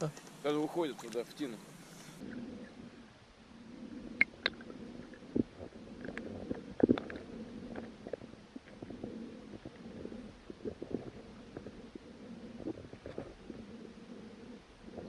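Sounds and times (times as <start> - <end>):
muffled underwater water murmur: 0.0 - 15.0.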